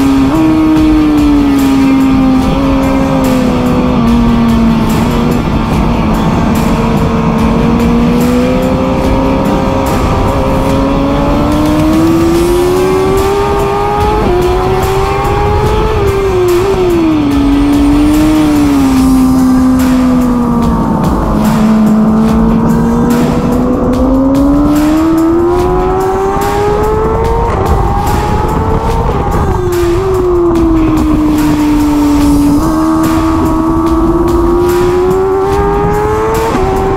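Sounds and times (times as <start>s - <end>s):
motorbike engine revving: 0.0s - 36.9s
wind rush hiss: 0.0s - 36.9s.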